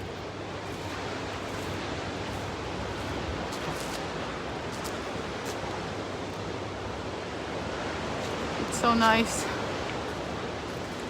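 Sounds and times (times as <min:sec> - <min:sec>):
ocean waves breaking: 0:00.0 - 0:11.0.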